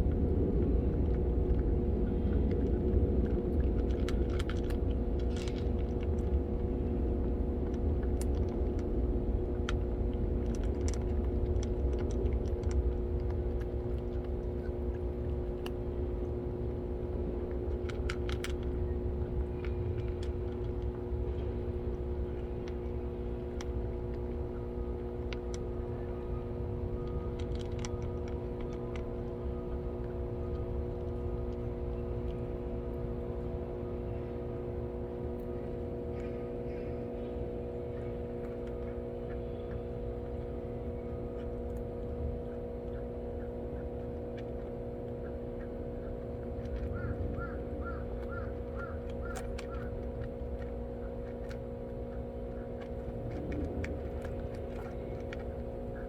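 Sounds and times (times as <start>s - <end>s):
machine hum: 0.0s - 56.0s.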